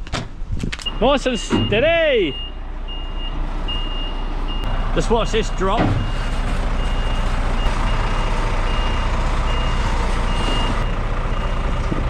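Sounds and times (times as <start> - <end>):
reversing alarm beeping: 0.9 - 11.8
truck diesel engine running: 1.0 - 12.0.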